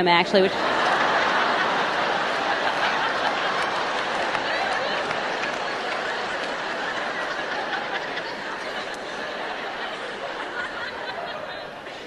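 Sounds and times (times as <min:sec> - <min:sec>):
audience laughing: 0:00.2 - 0:12.0.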